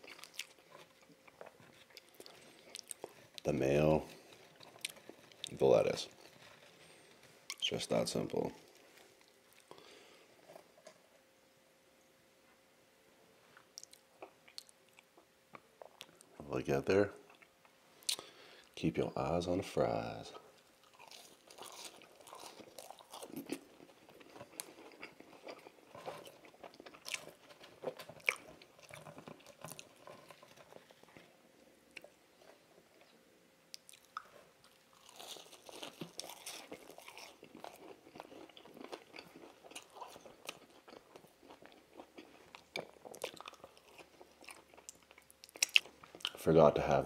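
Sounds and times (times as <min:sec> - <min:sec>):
person chewing fries: 0:00.0 - 0:03.4, 0:04.1 - 0:11.1, 0:13.6 - 0:16.3, 0:20.6 - 0:46.4.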